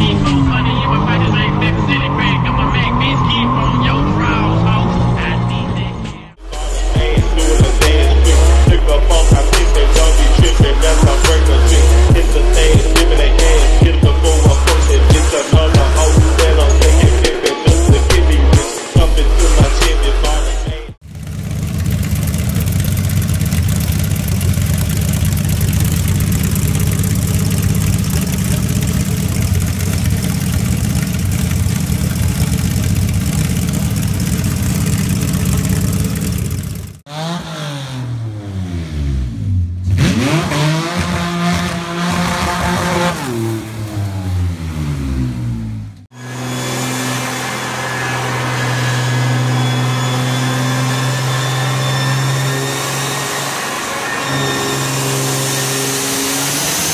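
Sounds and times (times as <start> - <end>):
car engine revving: 0.0 - 56.9
diesel engine running: 0.0 - 56.9.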